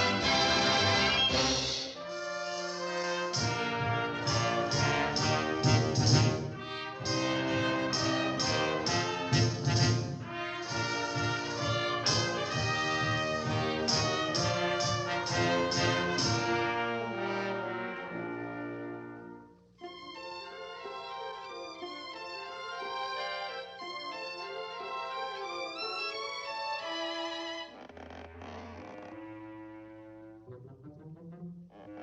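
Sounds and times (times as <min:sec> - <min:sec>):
brass-led orchestral music: 0:00.0 - 0:32.0.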